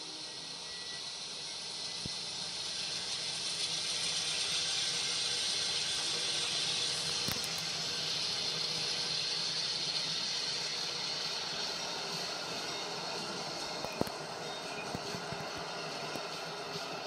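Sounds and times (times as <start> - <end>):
train wheels rushing on rails: 0.0 - 17.0.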